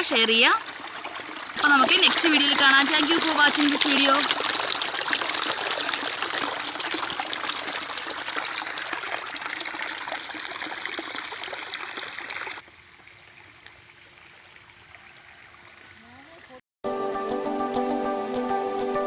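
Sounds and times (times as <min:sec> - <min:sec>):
running water trickling and splashing: 0:00.0 - 0:16.6.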